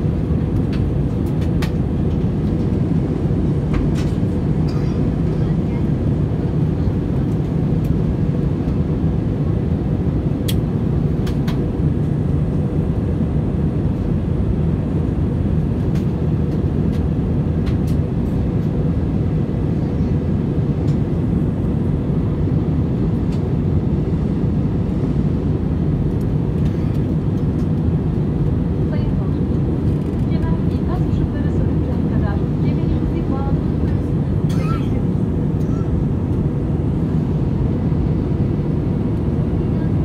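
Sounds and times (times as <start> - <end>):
jet cabin engine roar: 0.0 - 40.0.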